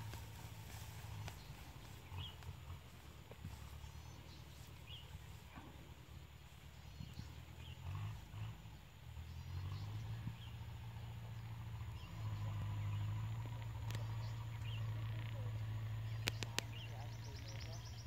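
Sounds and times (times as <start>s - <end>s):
steady low rumble: 0.0s - 18.0s
faint bird chirps: 1.1s - 18.0s.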